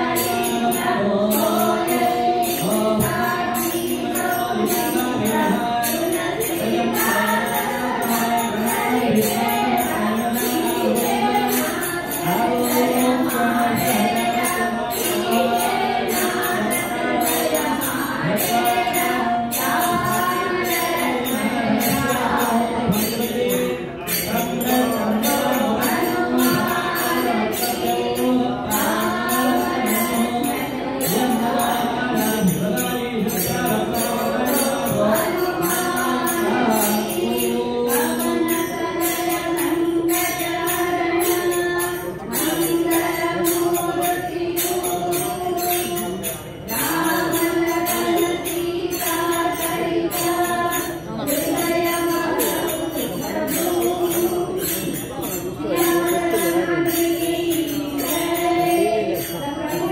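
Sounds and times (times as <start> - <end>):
jingling percussion beat: 0.0 - 59.9
voices singing together: 0.0 - 59.9.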